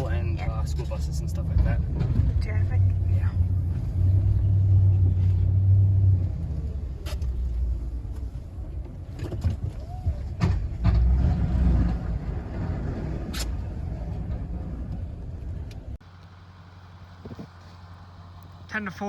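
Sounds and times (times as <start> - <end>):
truck engine rumble: 0.0 - 19.0.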